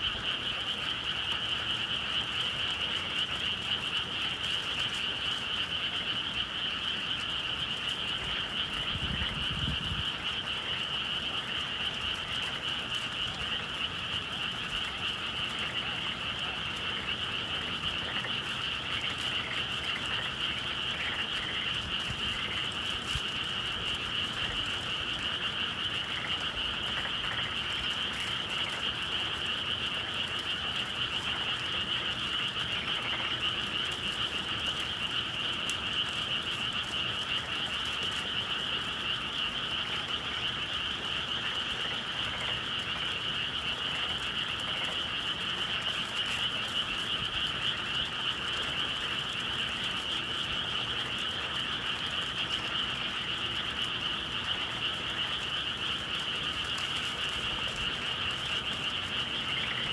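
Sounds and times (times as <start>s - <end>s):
chorus of frogs calling: 0.0s - 59.9s.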